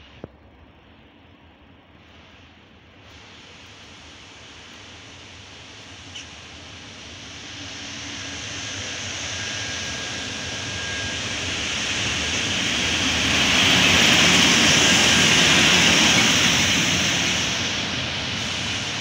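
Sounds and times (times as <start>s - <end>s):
electric locomotive passing: 2.8s - 19.0s.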